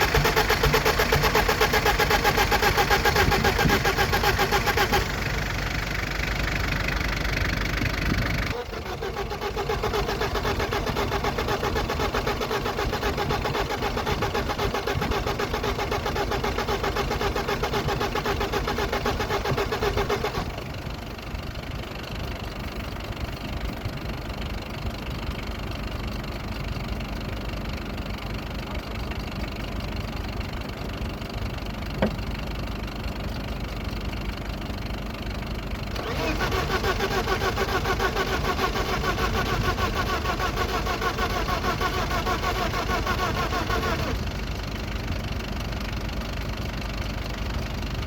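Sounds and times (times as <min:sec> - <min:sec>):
car engine cranking: 0:00.0 - 0:28.8, 0:33.2 - 0:48.0.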